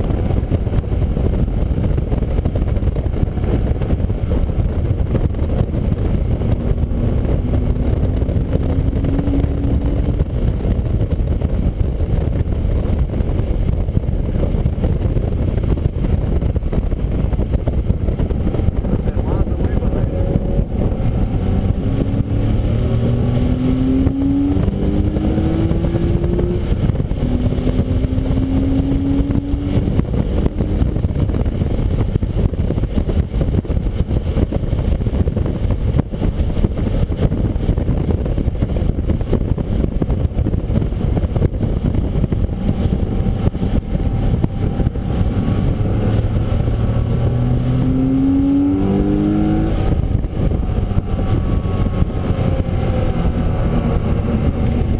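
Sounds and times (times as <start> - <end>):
car engine accelerating: 0.0 - 38.1, 38.9 - 54.9
wind and wet-road noise: 0.0 - 54.9.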